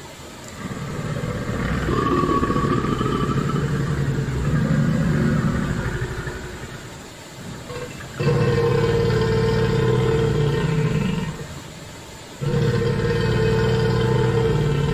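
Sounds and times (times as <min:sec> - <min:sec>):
crocodile growl: 0:00.5 - 0:11.6, 0:12.4 - 0:14.9.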